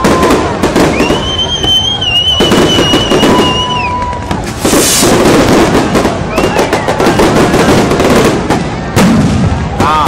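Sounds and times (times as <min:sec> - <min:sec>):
high firework whistle: 0:00.0 - 0:08.1
fireworks bangs and crackles: 0:00.0 - 0:10.0
loud hissing crackle: 0:00.0 - 0:10.0.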